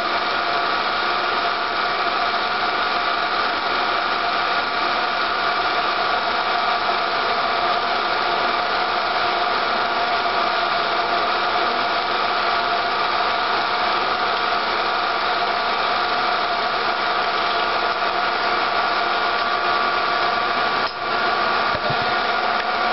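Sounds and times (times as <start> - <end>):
film projector whirring: 0.0 - 22.9.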